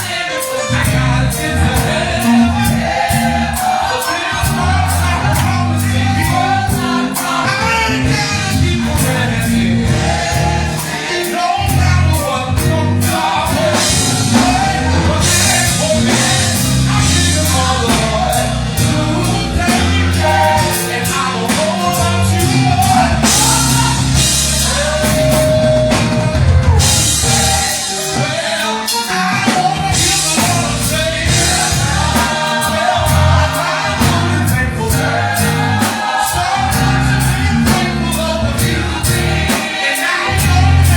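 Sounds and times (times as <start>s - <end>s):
bass: 0.0s - 39.6s, 40.3s - 40.9s
drum kit with cymbal crashes: 0.0s - 40.9s
gospel choir singing: 0.0s - 40.9s
keyboard: 0.0s - 40.9s.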